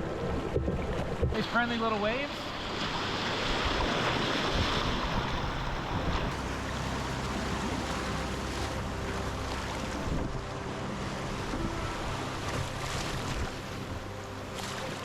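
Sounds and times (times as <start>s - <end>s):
rushing whitewater rapids: 0.0s - 15.0s
wind rumble on microphone: 0.0s - 15.0s.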